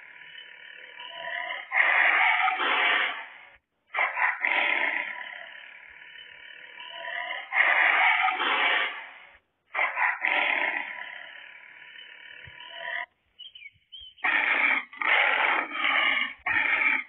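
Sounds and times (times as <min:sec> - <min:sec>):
tiger roaring: 0:00.0 - 0:13.2, 0:14.2 - 0:17.0.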